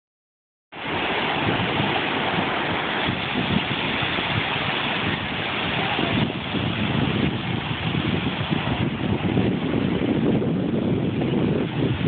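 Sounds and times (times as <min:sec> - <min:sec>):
ocean surf breaking: 0:00.7 - 0:12.0.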